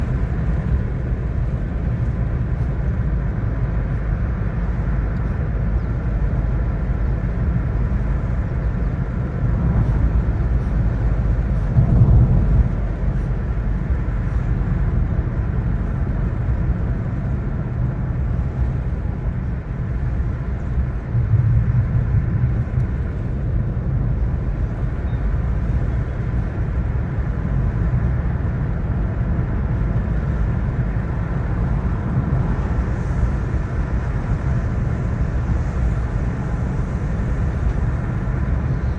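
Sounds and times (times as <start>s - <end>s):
moving car rumble: 0.0s - 38.9s.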